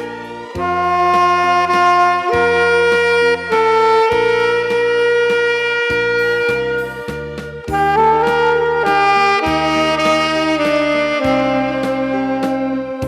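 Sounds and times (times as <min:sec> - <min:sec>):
instrumental music with held melody: 0:00.0 - 0:13.0.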